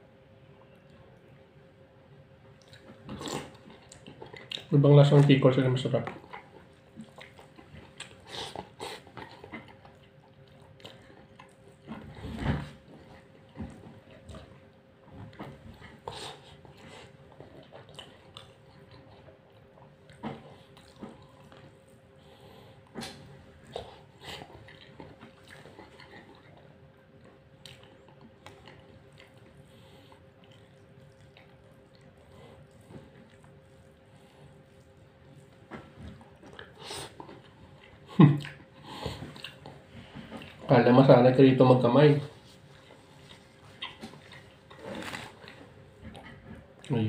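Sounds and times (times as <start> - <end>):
man chewing food: 0.0 - 47.0
steady low hum: 0.0 - 47.0.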